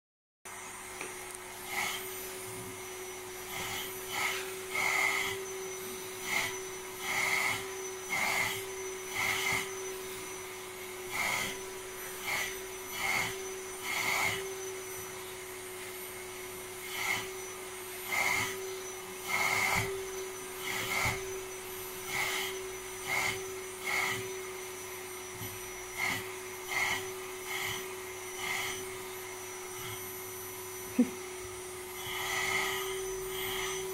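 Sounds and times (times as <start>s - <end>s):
vacuum cleaner humming: 0.5s - 33.9s.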